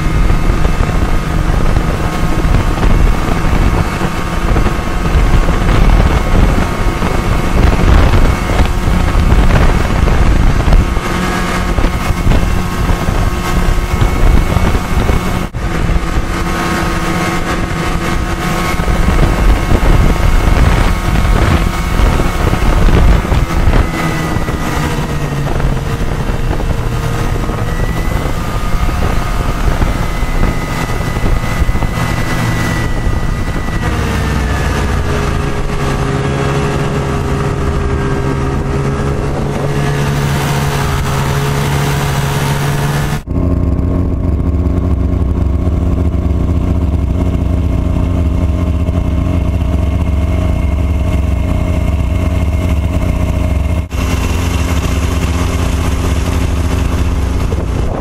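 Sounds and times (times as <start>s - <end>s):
low engine drone: 0.0s - 58.0s
vehicle engine running: 0.0s - 58.0s.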